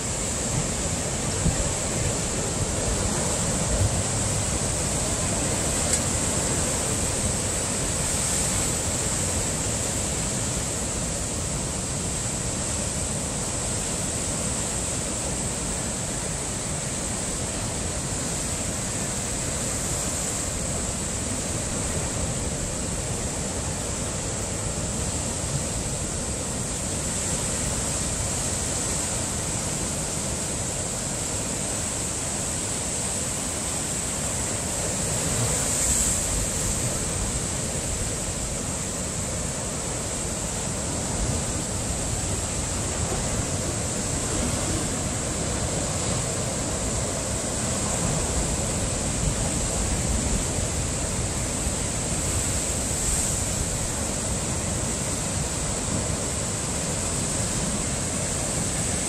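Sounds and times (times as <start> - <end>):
ocean surf breaking on rocks: 0.0 - 59.0.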